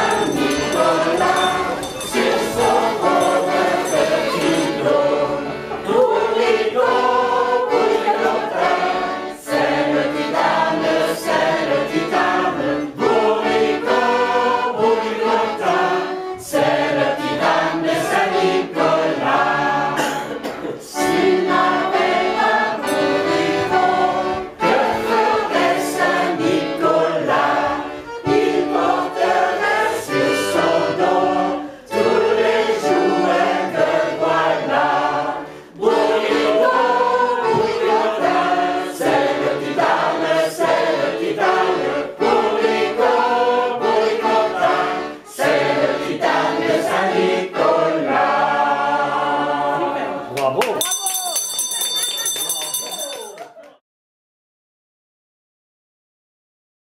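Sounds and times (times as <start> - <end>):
choir singing: 0.0 - 50.4.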